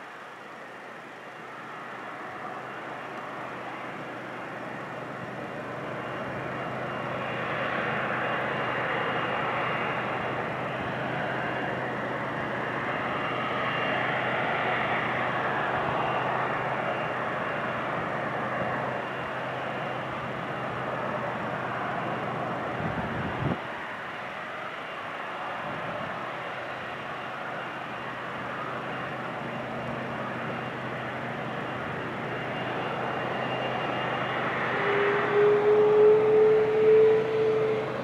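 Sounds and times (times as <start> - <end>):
jet engines running: 0.0 - 38.0.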